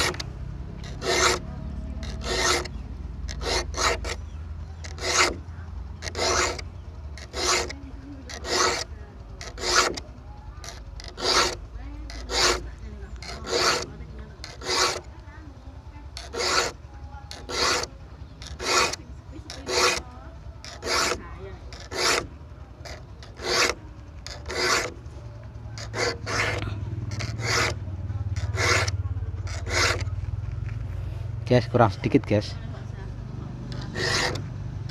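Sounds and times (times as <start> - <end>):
file rasping on saw teeth: 0.0 - 0.2, 0.8 - 15.2, 16.2 - 25.0, 25.8 - 30.1, 33.7 - 34.5.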